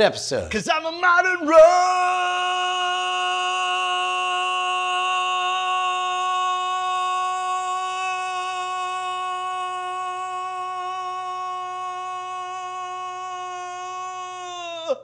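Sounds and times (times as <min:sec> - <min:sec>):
man singing long note: 0:01.5 - 0:15.0.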